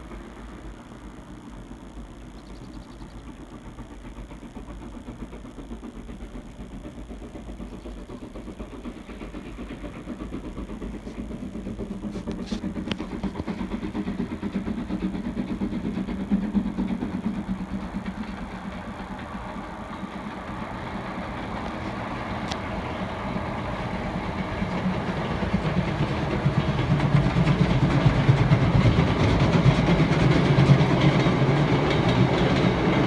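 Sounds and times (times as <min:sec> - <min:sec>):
train engine running: 0:00.0 - 0:33.0.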